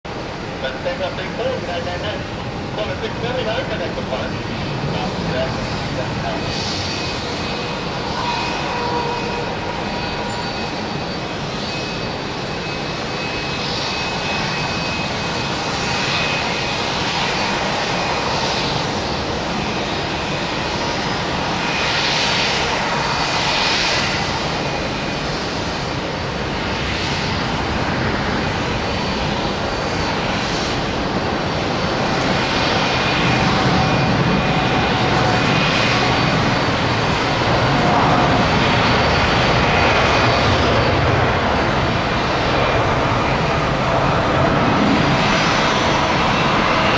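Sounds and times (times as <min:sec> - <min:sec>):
jet engines at takeoff power: 0:00.1 - 0:46.9.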